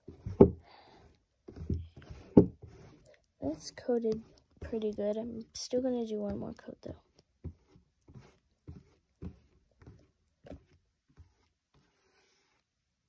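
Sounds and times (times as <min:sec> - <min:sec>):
paintbrush strokes on cardboard: 0:00.0 - 0:12.8.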